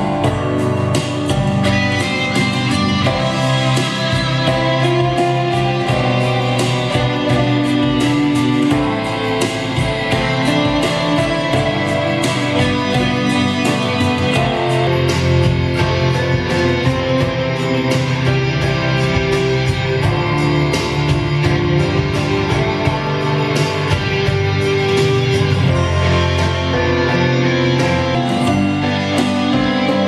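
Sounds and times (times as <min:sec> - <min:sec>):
guitar-led music with steady beat: 0:00.0 - 0:30.0.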